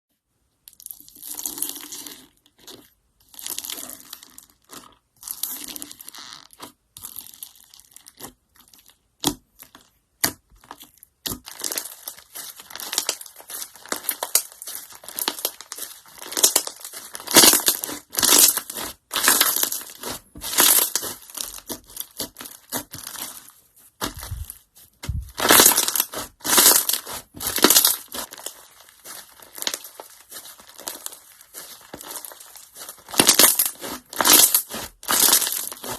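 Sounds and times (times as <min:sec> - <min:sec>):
slime crackling and crunching: 0:00.9 - 0:35.9.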